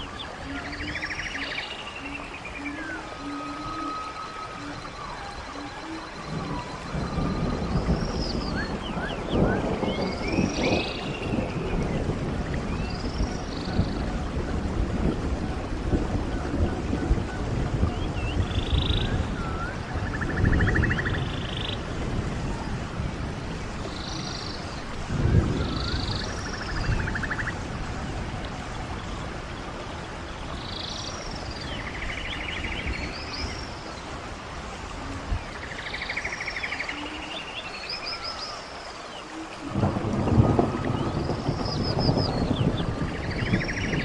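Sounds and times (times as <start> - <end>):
songbirds calling: 0.0 - 44.0
stream rushing: 0.0 - 44.0.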